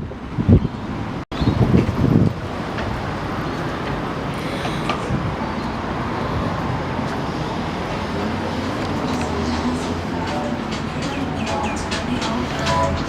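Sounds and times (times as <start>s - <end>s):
road traffic going by: 0.0s - 13.0s.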